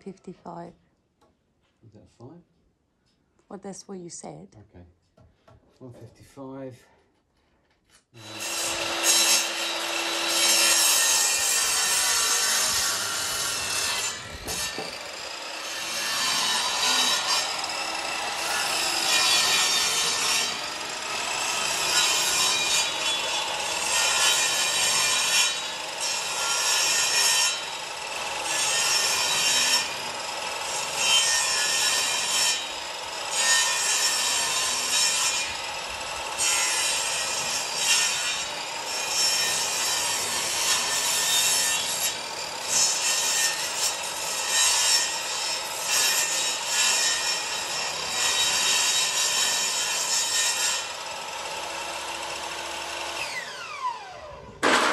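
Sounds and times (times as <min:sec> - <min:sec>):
table saw cutting wood: 0:08.2 - 0:54.9.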